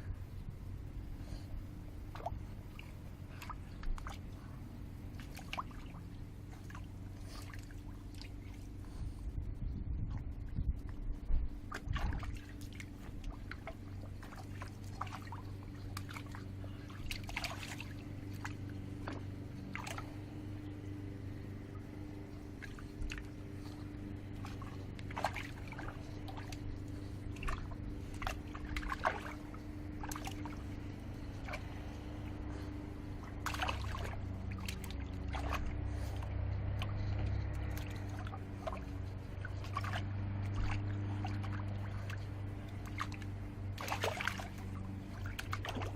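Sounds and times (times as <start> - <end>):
steady low hum: 0.0 - 45.9
water splashing in bird bath: 2.1 - 8.8, 11.7 - 45.9.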